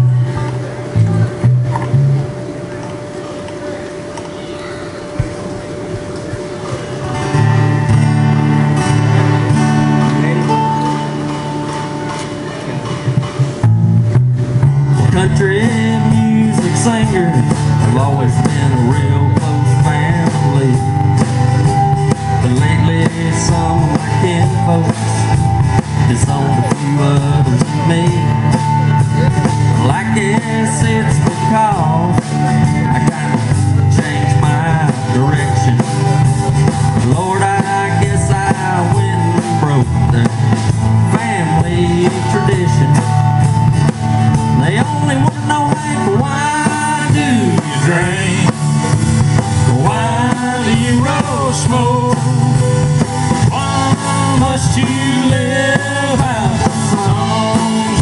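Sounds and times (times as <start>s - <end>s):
upright double bass: 0.0s - 2.9s, 6.9s - 58.0s
acoustic guitar strumming: 0.0s - 58.0s
drum kit: 5.0s - 58.0s.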